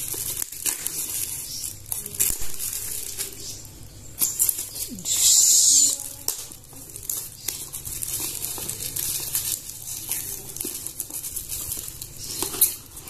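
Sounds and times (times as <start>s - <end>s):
packing tape ripping: 0.0s - 3.6s, 4.2s - 13.0s
plastic wrapping crinkling: 0.0s - 13.0s.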